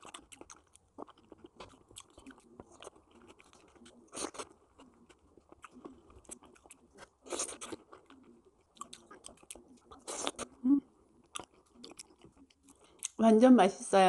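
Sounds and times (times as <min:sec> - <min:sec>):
wet mouth clicks: 0:00.0 - 0:10.6, 0:11.2 - 0:13.2
close-up chewing of soft fruit: 0:00.0 - 0:13.2.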